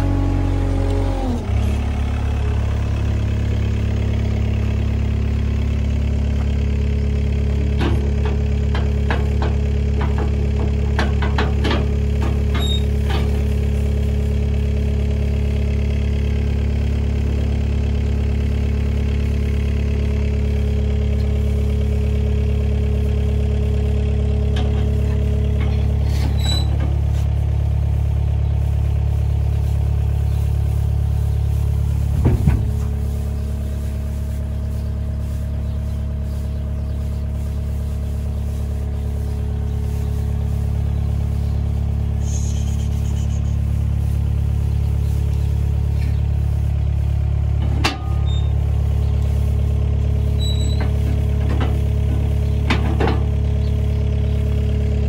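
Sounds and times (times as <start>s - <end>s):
loader engine idling: 0.0s - 55.0s.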